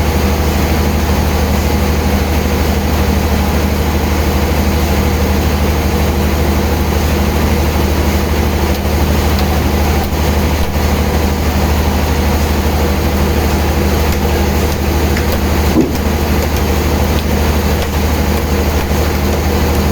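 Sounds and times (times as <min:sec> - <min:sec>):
sawmill machinery running: 0:00.0 - 0:19.9.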